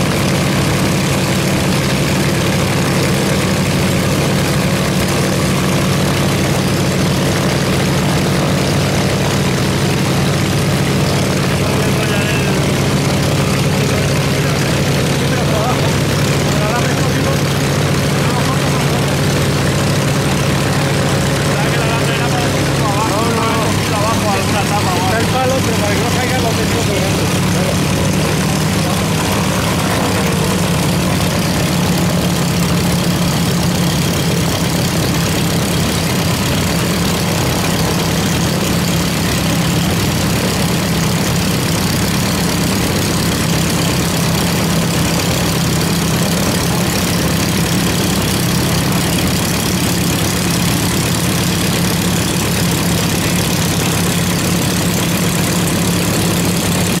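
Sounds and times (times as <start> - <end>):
propeller aircraft engines idling: 0.0 - 57.0.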